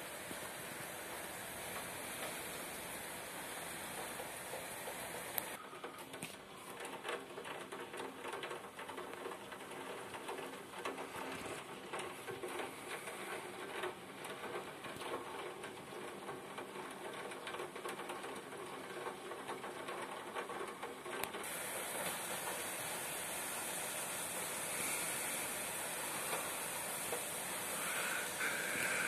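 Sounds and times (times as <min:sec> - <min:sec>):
rain hiss: 0:00.0 - 0:29.0
raindrops ticking: 0:00.0 - 0:29.0.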